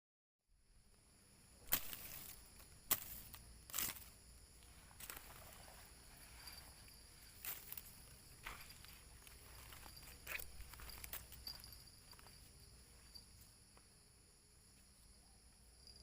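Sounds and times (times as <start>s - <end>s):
high insect drone: 0.6s - 16.0s.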